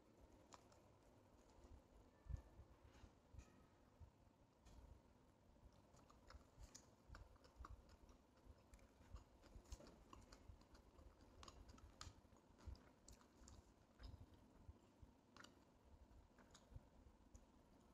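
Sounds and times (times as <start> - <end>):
faint chewing: 0.0 - 3.2, 5.7 - 17.9.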